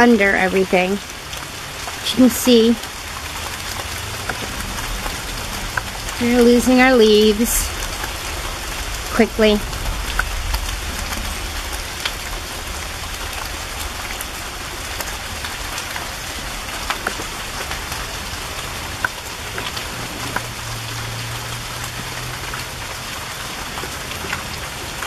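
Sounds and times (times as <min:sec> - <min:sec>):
raindrops tapping close by: 0:00.0 - 0:25.0
steady rain falling: 0:00.0 - 0:25.0
low hum: 0:02.8 - 0:22.9.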